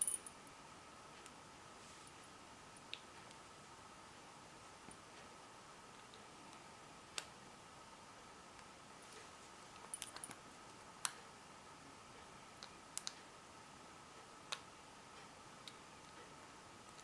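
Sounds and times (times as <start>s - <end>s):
faint steady tone: 0.0s - 17.0s.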